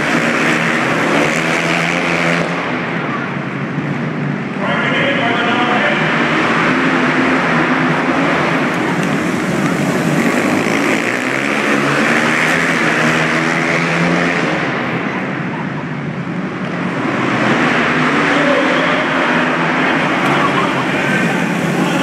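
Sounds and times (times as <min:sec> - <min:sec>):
motorcycle engines running hard: 0:00.0 - 0:22.0.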